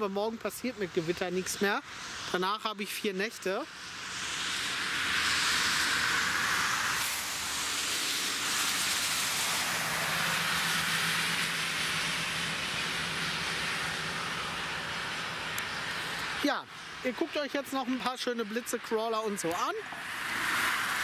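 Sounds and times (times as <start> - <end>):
tyres hissing on wet road: 0.0 - 21.0
low engine hum: 3.6 - 21.0.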